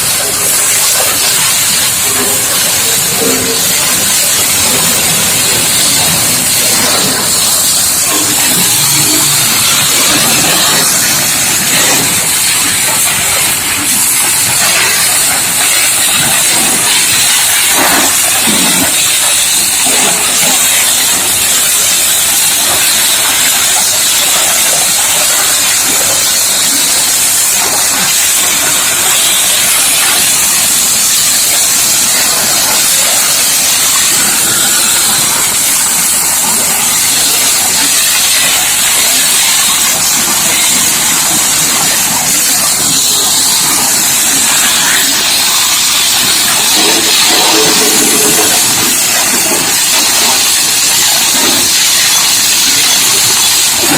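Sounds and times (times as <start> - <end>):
water jet spray hiss: 0.0 - 53.9.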